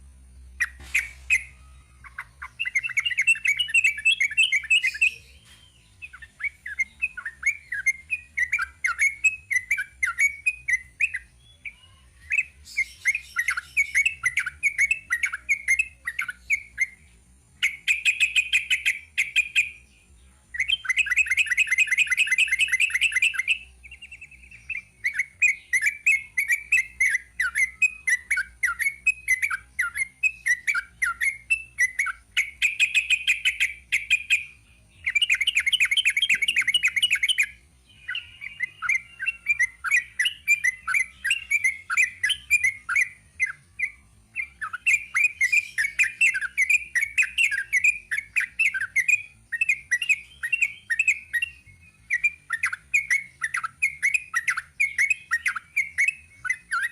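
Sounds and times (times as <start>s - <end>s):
bulbul singing chattering song: 0.0s - 56.9s.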